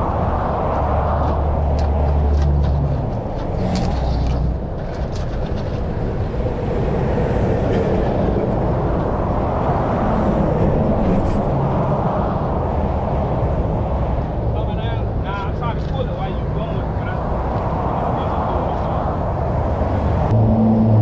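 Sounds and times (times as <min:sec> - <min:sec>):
highway traffic rushing past: 0:00.0 - 0:21.0.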